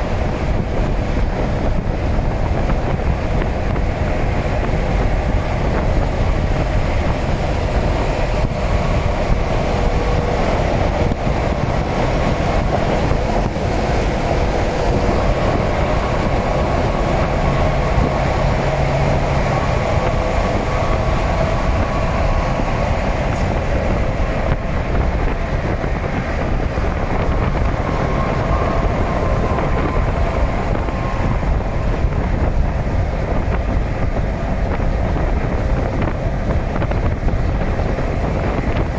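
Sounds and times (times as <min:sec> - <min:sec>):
freight train wagons rumbling: 0:00.0 - 0:38.9.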